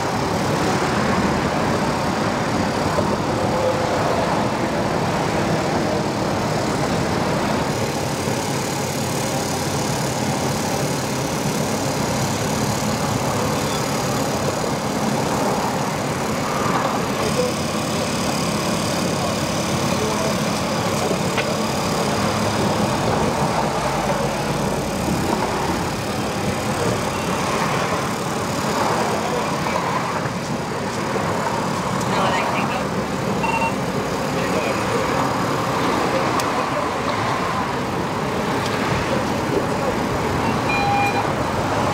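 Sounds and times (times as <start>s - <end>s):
engines idling: 0.0s - 41.9s
machinery drone: 0.0s - 41.9s.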